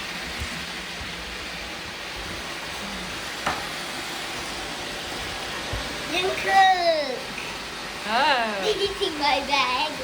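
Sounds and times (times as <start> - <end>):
robot vacuums whirring: 0.0 - 10.0.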